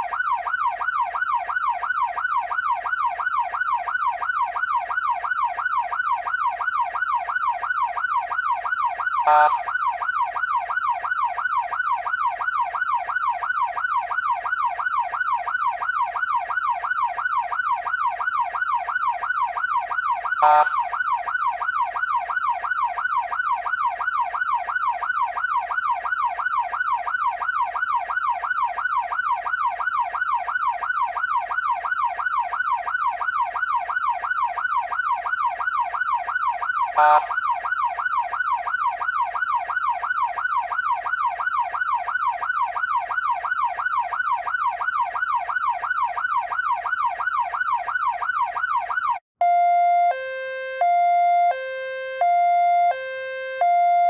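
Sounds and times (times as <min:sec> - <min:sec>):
electronic siren yelp: 0:00.0 - 0:54.0.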